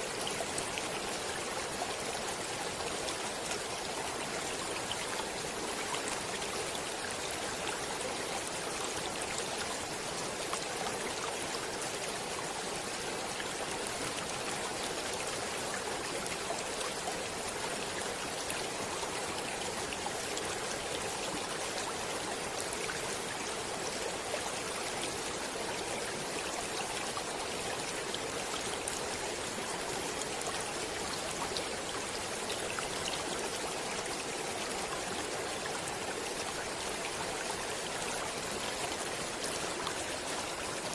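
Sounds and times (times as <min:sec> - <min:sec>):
stream water flowing over rocks: 0:00.0 - 0:40.9.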